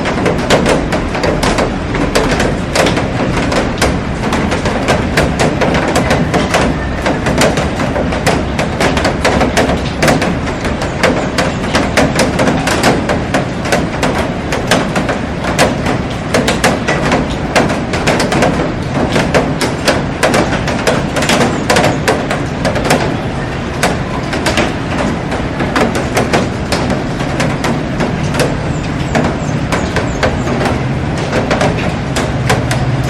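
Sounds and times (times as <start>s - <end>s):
heavy rain on a glass roof: 0.0s - 33.0s.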